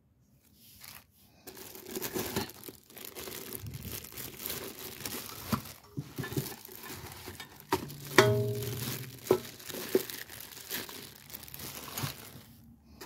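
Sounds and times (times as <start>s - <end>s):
plastic wrapping crinkling: 0.6s - 12.7s.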